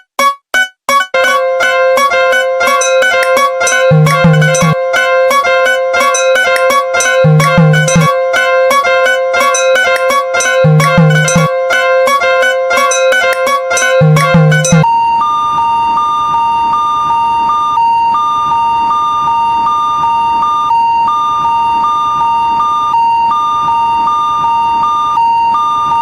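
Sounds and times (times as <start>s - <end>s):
two-tone crossing alarm beeps: 0.0s - 26.0s.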